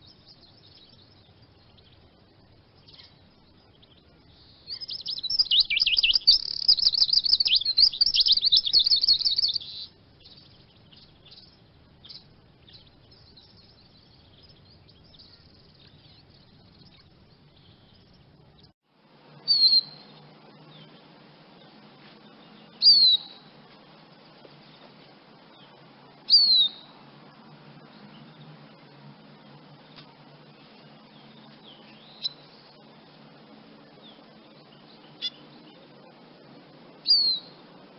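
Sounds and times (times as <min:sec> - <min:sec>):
descending whistled bird calls: 0:00.0 - 0:18.7, 0:19.4 - 0:21.0, 0:21.6 - 0:23.5, 0:25.5 - 0:29.0, 0:30.6 - 0:32.9, 0:33.8 - 0:36.4, 0:37.0 - 0:37.6
bird twittering song: 0:00.0 - 0:37.9.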